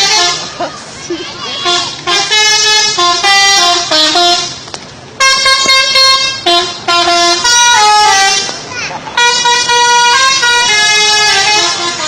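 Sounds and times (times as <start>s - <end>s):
bus horn playing a tune: 0.0s - 12.0s.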